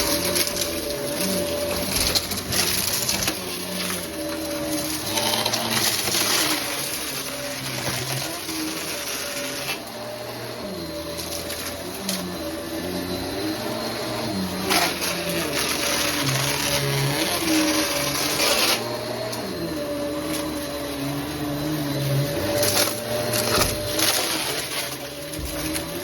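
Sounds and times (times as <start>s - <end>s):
debris rattling in vacuum: 0.0s - 26.0s
vacuum cleaner motor whine: 0.0s - 26.0s.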